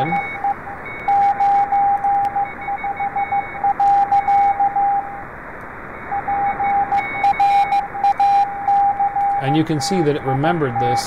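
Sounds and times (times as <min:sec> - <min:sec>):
morse code beeping: 0:00.0 - 0:05.2, 0:06.0 - 0:11.0
receiver hiss: 0:00.0 - 0:11.0.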